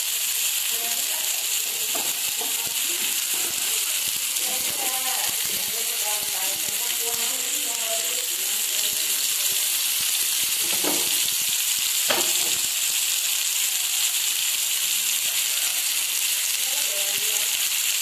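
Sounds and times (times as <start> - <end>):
fish sizzling in oil: 0.0 - 18.0.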